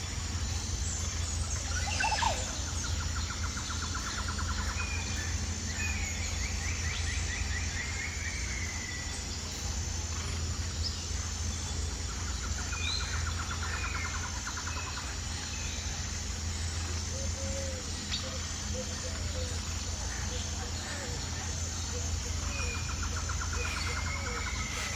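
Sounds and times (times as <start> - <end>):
birds singing: 0.0 - 24.9
insect buzz: 0.0 - 24.9.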